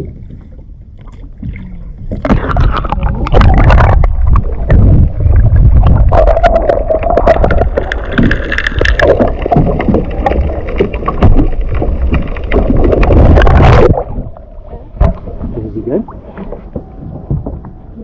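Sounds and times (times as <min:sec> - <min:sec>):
water splashing and sloshing: 0:00.0 - 0:18.0
heavy rumbling buffeting: 0:01.6 - 0:18.0.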